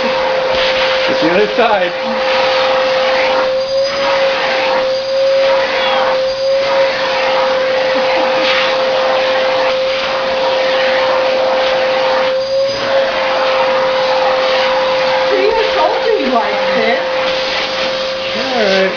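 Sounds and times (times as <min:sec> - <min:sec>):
vacuum cleaner whine: 0:00.0 - 0:18.9.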